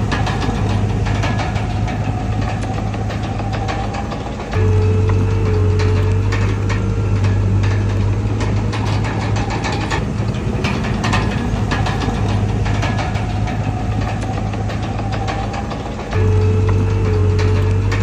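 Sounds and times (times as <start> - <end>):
bulldozer diesel engine running: 0.0 - 18.0
metallic clatter and knocks: 0.0 - 18.0.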